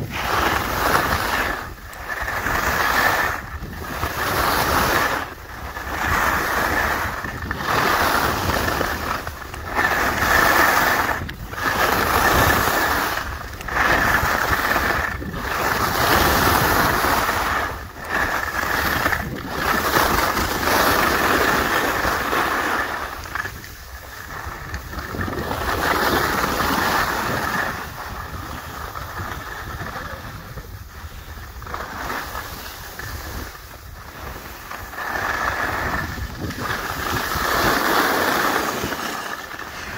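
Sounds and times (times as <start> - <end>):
ski edges scraping on snow: 0.0 - 39.9
wind on microphone: 0.0 - 39.9.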